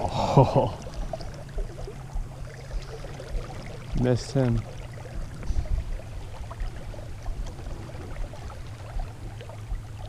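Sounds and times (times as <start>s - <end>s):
low rumbling on microphone: 0.0s - 10.0s
river water running over rocks: 0.0s - 10.0s.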